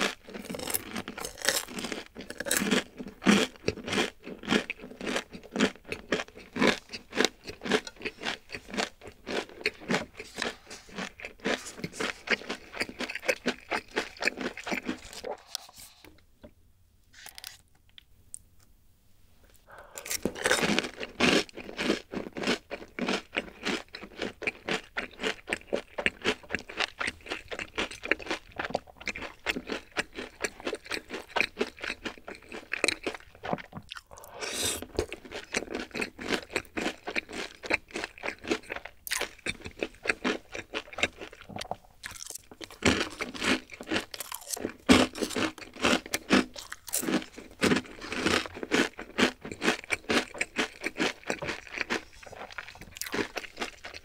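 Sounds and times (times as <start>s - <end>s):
chewing crunchy food: 0.0s - 16.1s, 19.7s - 54.0s.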